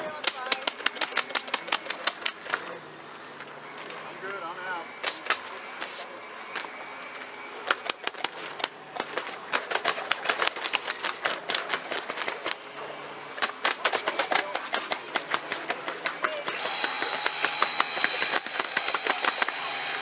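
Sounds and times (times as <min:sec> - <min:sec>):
toy cannons firing sharp clicks: 0:00.0 - 0:02.8, 0:05.0 - 0:06.8, 0:07.6 - 0:12.7, 0:13.3 - 0:20.0.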